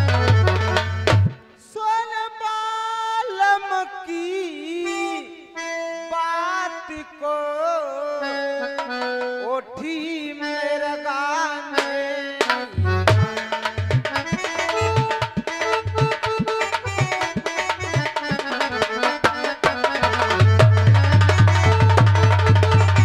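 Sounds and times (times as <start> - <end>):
harmonium melody: 0.0 - 23.0.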